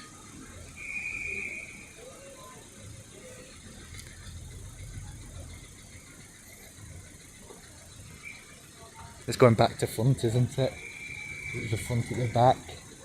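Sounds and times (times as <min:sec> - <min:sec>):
faint low engine rumble: 0:00.0 - 0:13.0.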